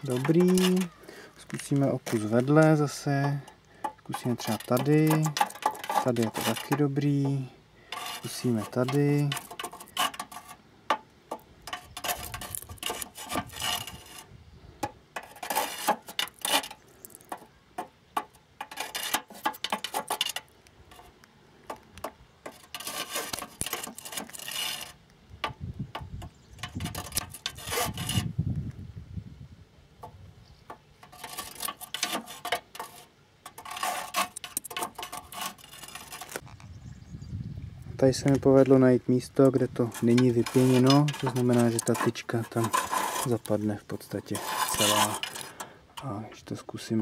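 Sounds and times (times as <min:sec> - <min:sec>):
steel rod scraping clay blocks: 0:00.0 - 0:28.4, 0:30.0 - 0:36.6, 0:38.2 - 0:47.0.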